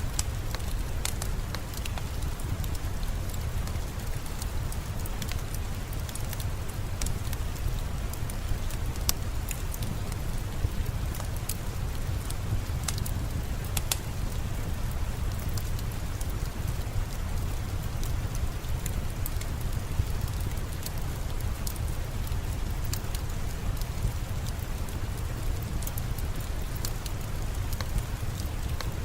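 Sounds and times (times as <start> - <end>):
crackling fireplace: 0.0 - 29.0
steady rain falling: 0.0 - 29.0.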